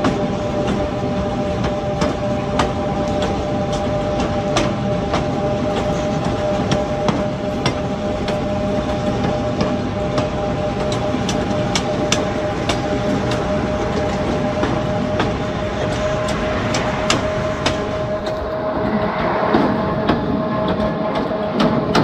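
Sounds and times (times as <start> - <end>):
sharp clicks of train wheels: 0.0 - 22.0
train rumble with two-note whine: 0.0 - 22.0.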